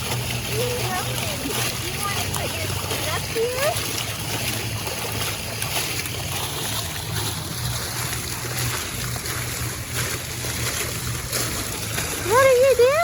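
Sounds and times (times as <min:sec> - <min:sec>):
steady low hum: 0:00.0 - 0:13.0
water splashing in a pool: 0:00.0 - 0:13.0.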